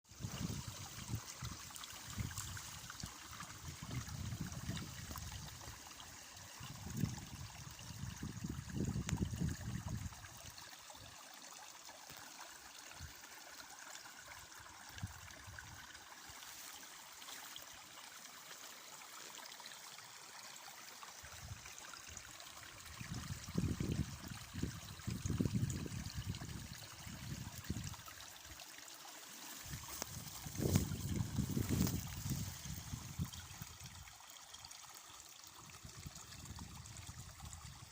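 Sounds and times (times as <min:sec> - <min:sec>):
small stream trickling: 0:00.0 - 0:37.9.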